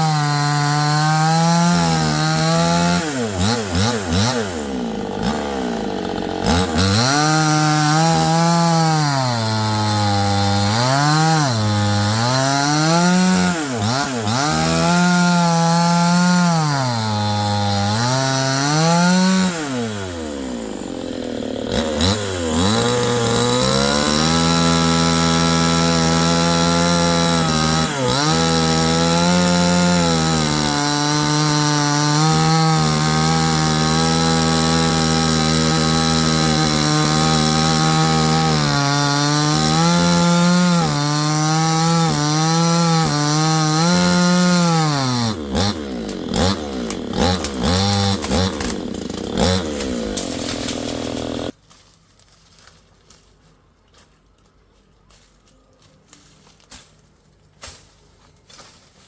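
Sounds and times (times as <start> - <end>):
chainsaw cutting wood: 0.0 - 51.6.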